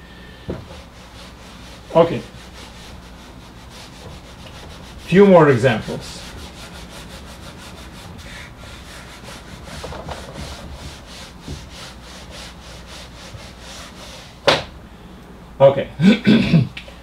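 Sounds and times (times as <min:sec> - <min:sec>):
eraser wiping whiteboard: 0:00.5 - 0:14.5.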